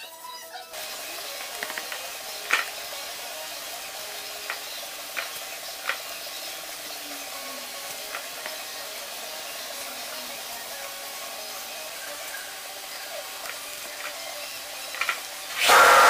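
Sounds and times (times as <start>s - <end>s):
steady hiss: 0.8s - 16.0s.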